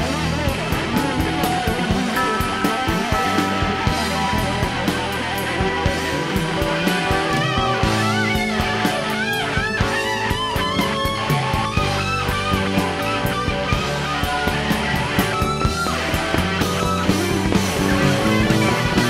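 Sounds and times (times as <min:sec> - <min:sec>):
bass: 0:00.0 - 0:19.0
drums: 0:00.0 - 0:19.0
electric lead guitar: 0:00.0 - 0:19.0
keyboards: 0:00.0 - 0:19.0.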